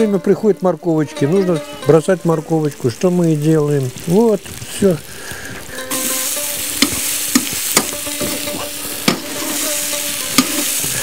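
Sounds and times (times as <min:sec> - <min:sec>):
meat and vegetables sizzling in pot: 0:00.0 - 0:11.0.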